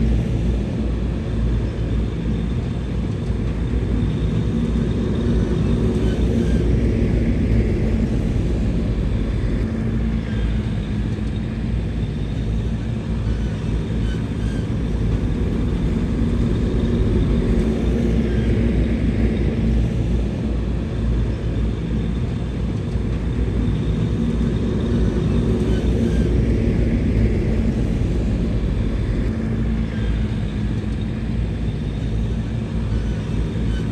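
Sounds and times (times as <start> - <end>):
heavy diesel engine rumbling: 3.5 - 33.9.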